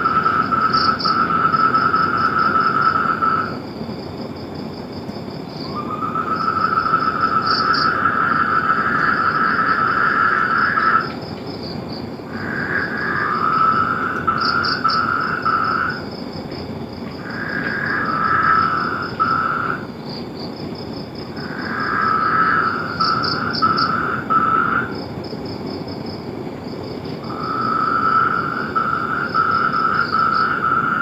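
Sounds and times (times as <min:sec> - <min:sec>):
high-pitched frog chorus: 0:00.0 - 0:03.7, 0:05.5 - 0:16.2, 0:17.1 - 0:20.2, 0:21.2 - 0:25.2, 0:27.0 - 0:31.0
frogs trilling: 0:00.0 - 0:04.6, 0:05.4 - 0:25.9, 0:26.7 - 0:31.0.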